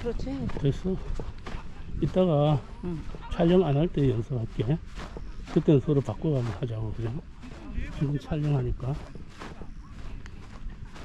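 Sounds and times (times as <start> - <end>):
soft footsteps: 0.0 - 11.0.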